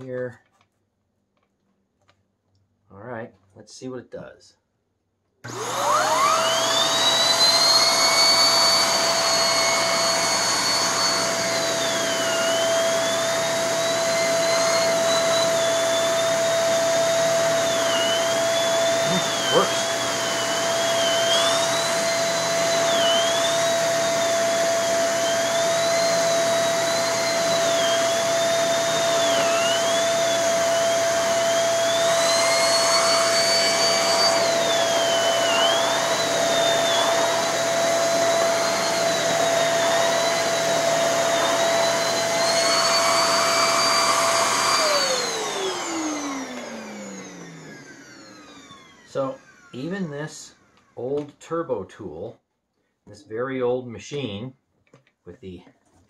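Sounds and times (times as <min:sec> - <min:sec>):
turbo brush whining: 0:05.5 - 0:50.5
vacuum motor spinning down: 0:05.5 - 0:51.0
vacuum cleaner motor whining: 0:05.5 - 0:51.3.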